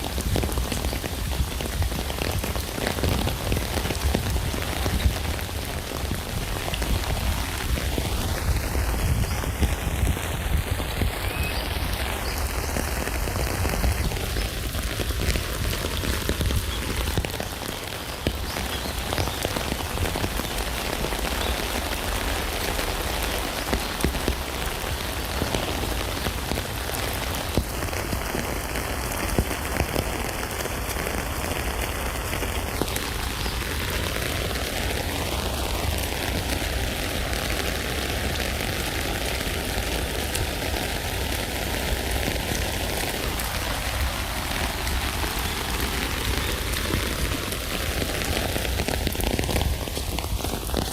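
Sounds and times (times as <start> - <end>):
rain falling on a tent: 0.0 - 50.9.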